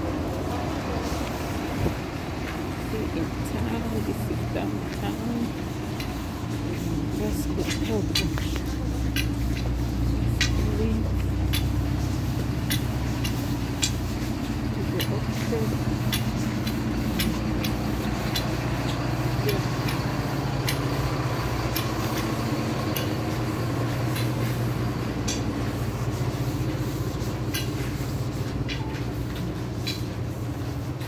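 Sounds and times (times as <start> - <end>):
bus engine humming: 0.0 - 31.0.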